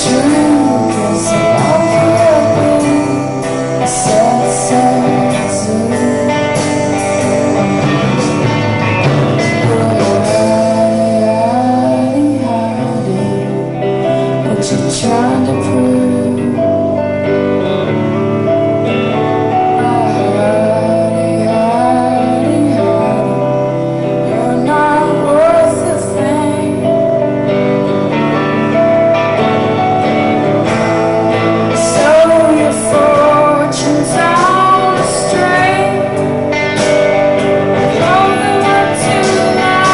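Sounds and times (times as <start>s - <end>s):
woman singing: 0.0s - 7.9s, 9.4s - 17.6s, 19.5s - 27.9s, 31.3s - 39.9s
drums: 0.0s - 39.9s
electric guitars: 0.0s - 39.9s.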